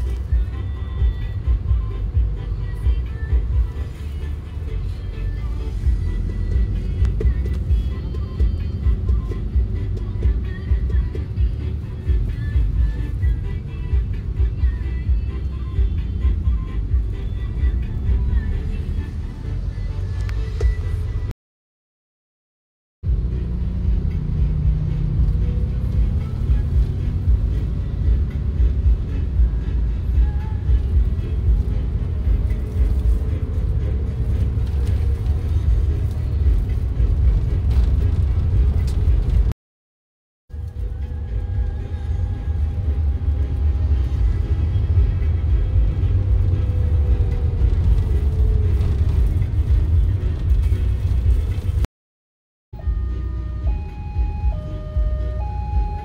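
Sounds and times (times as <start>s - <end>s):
car rumble from inside cabin: 0.0s - 21.3s, 23.1s - 39.5s, 40.5s - 51.9s, 52.8s - 56.0s
music playing: 0.0s - 21.3s, 23.1s - 39.5s, 40.5s - 51.8s, 52.8s - 56.0s.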